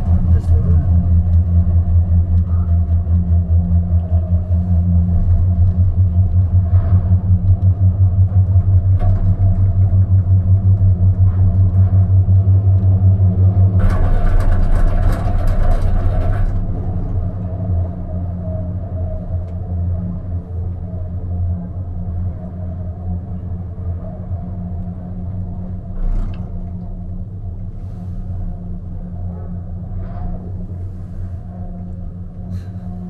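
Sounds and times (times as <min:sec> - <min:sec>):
cable car hum and rumble: 0:00.0 - 0:33.0.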